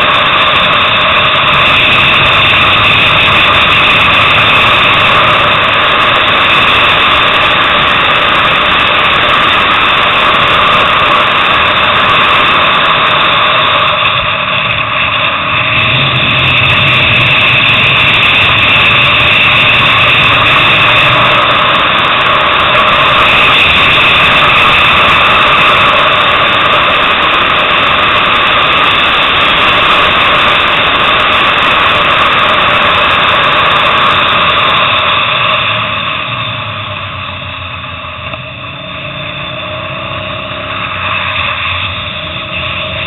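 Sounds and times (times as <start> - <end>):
motorcycle engine running at speed: 0.0 - 43.0
wind rush over microphone: 0.0 - 43.0.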